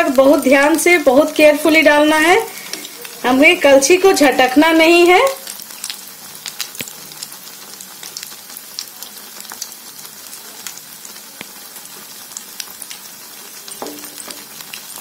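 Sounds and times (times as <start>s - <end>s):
batter deep-frying in ghee: 0.0s - 15.0s.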